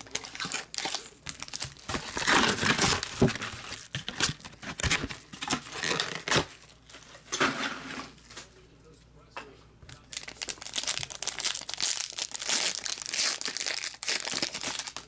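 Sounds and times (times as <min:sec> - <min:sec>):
plastic wrap crinkling: 0:00.0 - 0:07.2, 0:09.9 - 0:15.0.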